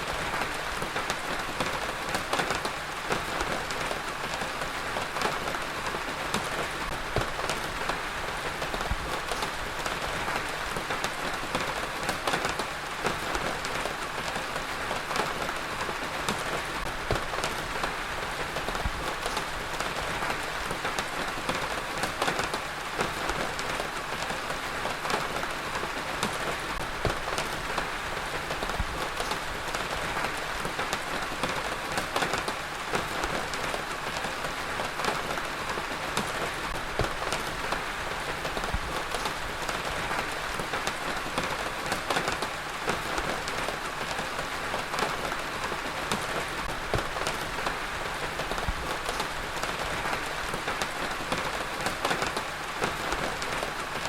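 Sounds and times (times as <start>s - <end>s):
heavy rain on a surface: 0.0s - 54.0s.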